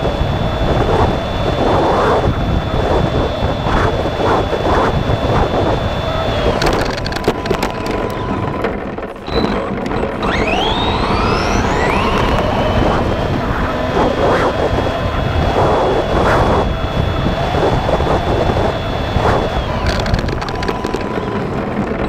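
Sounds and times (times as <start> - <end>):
electric motor whine: 0.0 - 22.0
wind and tyre noise: 0.0 - 22.0.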